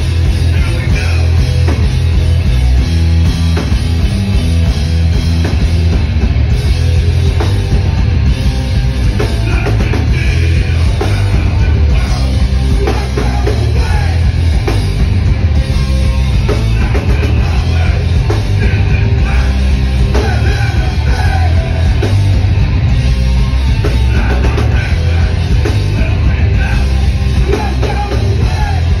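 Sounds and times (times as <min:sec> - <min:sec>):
distorted guitars and bass: 0:00.0 - 0:29.0
pounding drums: 0:00.0 - 0:29.0.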